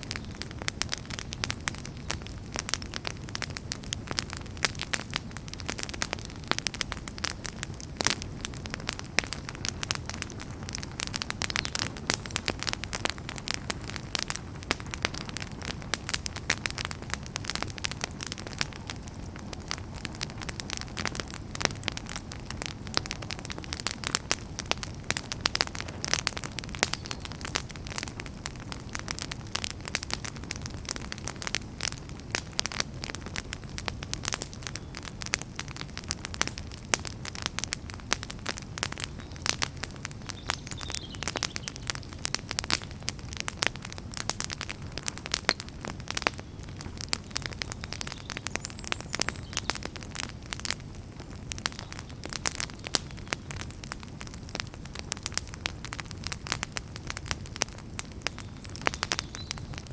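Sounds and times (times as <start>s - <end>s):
firewood crackling and popping: 0.0s - 59.9s
low rumble of flames: 0.0s - 59.9s.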